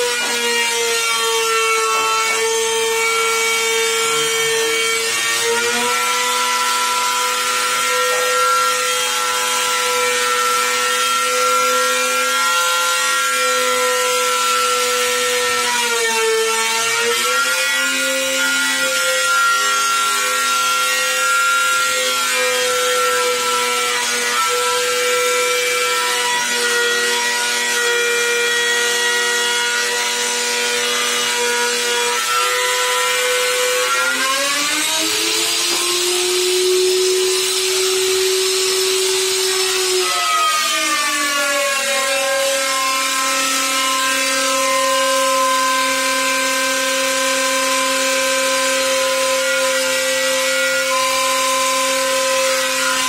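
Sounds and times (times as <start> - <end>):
electric jigsaw motor whine: 0.0 - 53.0.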